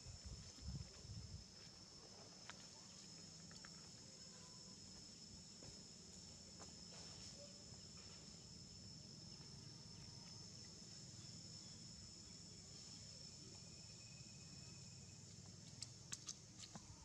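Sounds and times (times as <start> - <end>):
high-pitched insect drone: 2.4 - 17.0.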